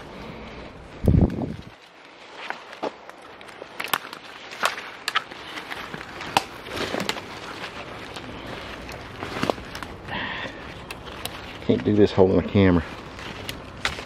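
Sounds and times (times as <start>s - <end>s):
twigs snapping underfoot: 0.0s - 14.0s
footsteps crunching dry leaves: 0.9s - 14.0s.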